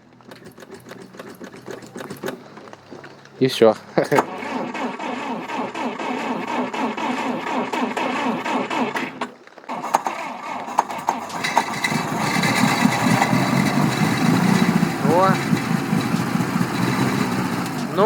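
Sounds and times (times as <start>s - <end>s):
engine cranking on starter: 0.2s - 18.0s
engine firing: 0.2s - 18.0s.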